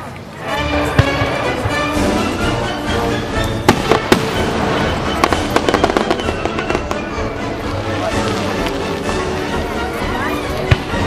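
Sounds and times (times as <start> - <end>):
background music: 0.0 - 11.0
fireworks bangs and crackles: 0.0 - 11.0.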